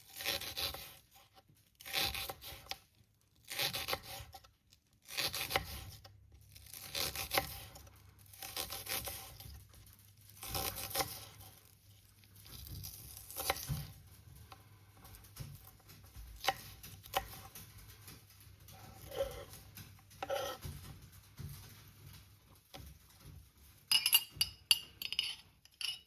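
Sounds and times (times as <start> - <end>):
tearing with rustling: 0.0 - 23.3.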